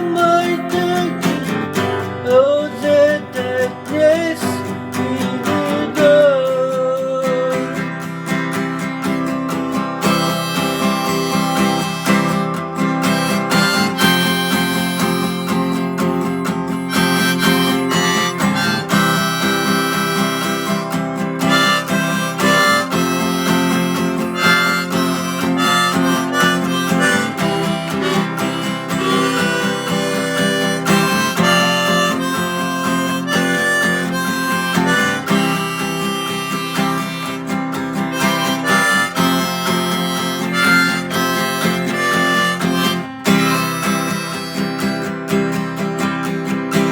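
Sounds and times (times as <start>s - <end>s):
harmonica melody: 0.0s - 46.9s
strummed acoustic guitar: 0.0s - 46.9s.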